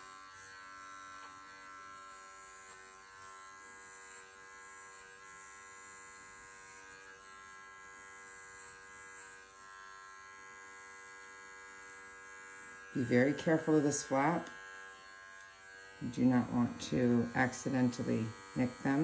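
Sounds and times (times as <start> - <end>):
hair clipper buzzing: 0.0 - 19.0.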